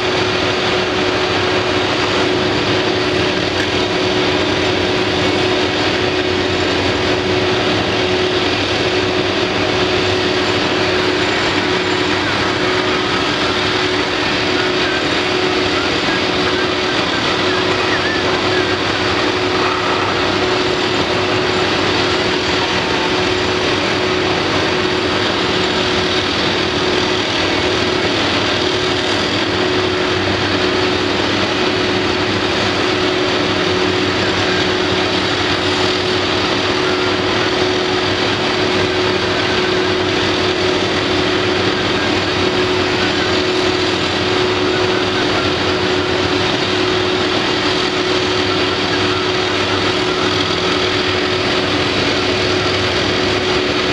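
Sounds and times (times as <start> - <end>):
construction machinery engines: 0.0 - 53.9.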